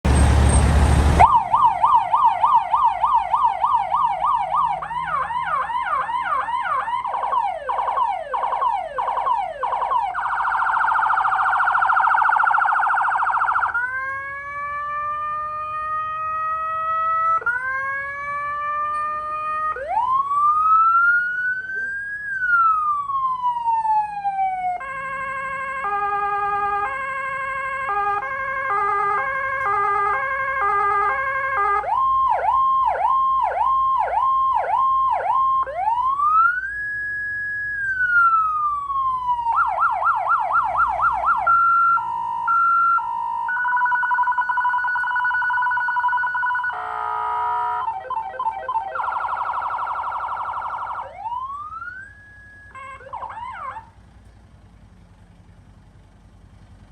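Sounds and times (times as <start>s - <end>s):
electronic vehicle siren: 0.1s - 54.1s.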